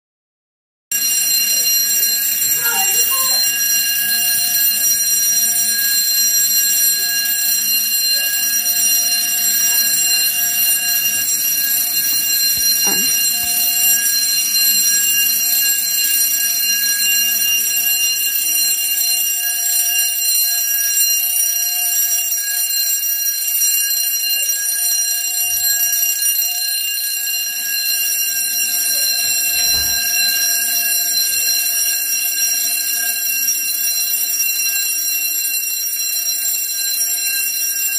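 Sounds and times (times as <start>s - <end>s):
fire alarm bell ringing: 0.9s - 37.9s.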